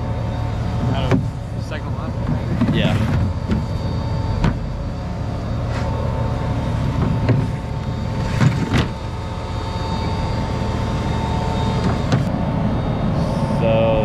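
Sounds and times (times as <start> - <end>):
faint steady whine: 0.0 - 14.0
tractor engine running: 0.0 - 14.0.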